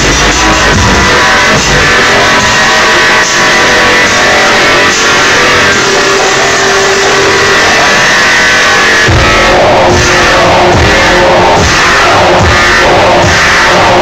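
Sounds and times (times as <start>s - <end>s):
loud dubstep music: 0.0s - 14.0s.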